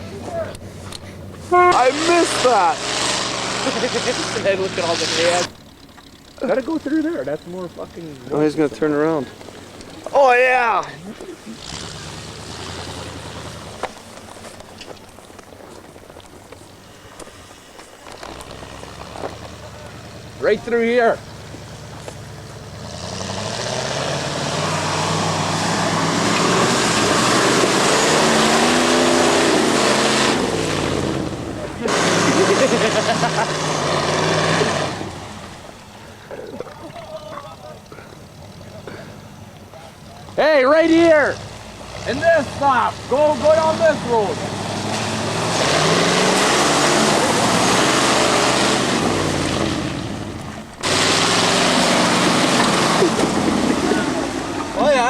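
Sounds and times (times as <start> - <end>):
truck engine pulling under load: 0.0 - 55.0
tyre and road noise: 0.0 - 55.0.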